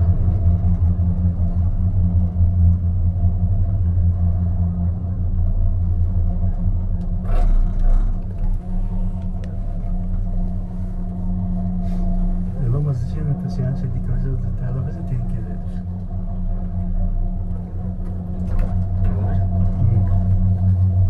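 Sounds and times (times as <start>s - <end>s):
cable car cabin hum and rumble: 0.0s - 21.0s
cable car rattle: 0.0s - 21.0s.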